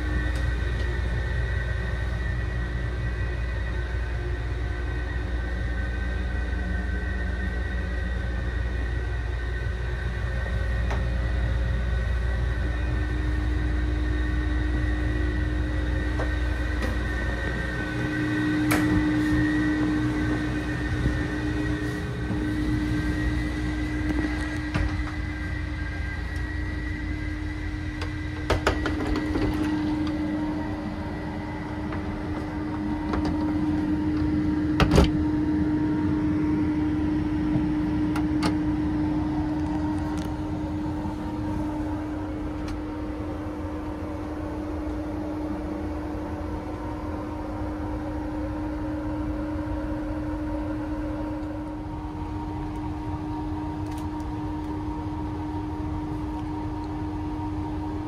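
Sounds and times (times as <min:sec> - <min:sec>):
low rumble: 0:00.0 - 0:58.0
train carriage mechanical hum: 0:00.0 - 0:58.0.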